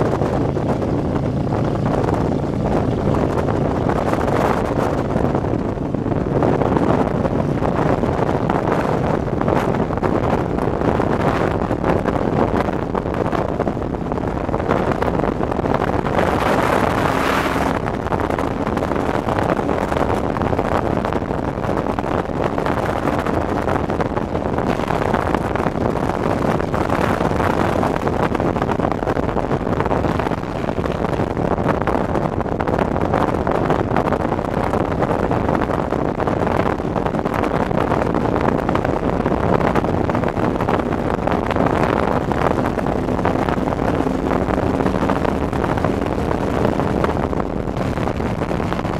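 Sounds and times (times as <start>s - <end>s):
motorcycle engine: 0.0s - 48.9s
wind rushing over microphone: 0.0s - 48.9s.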